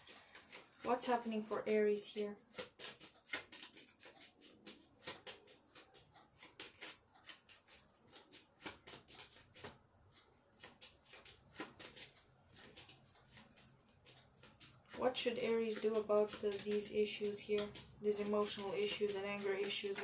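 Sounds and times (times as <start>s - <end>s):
playing cards being shuffled: 0.0s - 9.8s, 10.6s - 20.0s.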